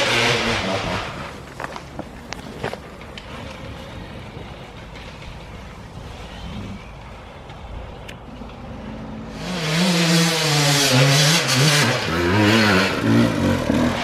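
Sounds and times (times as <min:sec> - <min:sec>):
dirt bike engines rumbling: 0:00.0 - 0:14.0.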